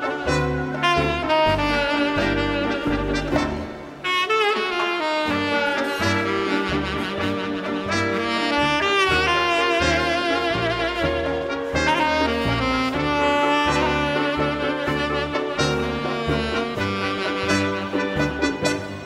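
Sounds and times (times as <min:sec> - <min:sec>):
rhythmic bass line: 0:00.0 - 0:04.0, 0:05.2 - 0:19.0
brass and saxophones playing: 0:00.0 - 0:19.0.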